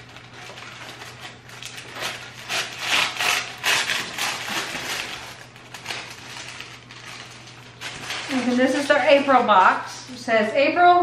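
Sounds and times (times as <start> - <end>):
paper packaging rustling: 0.0 - 10.0.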